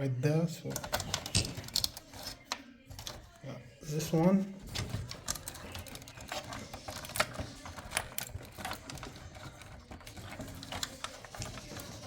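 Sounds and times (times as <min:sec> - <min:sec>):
cables and connectors clicking: 0:00.7 - 0:03.3, 0:04.6 - 0:12.0.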